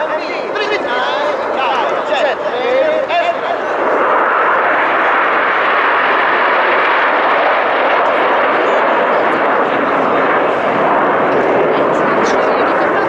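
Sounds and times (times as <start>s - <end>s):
aircraft flying low overhead: 0.0s - 13.0s.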